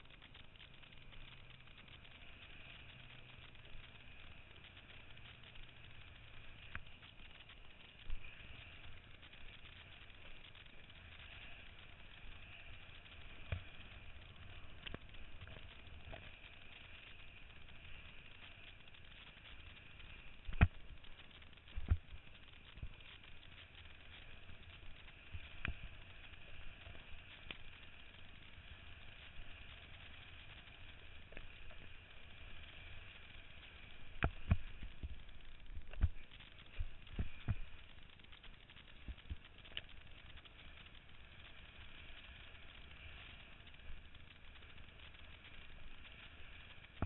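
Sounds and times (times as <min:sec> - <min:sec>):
water rushing under board: 0:00.0 - 0:47.0.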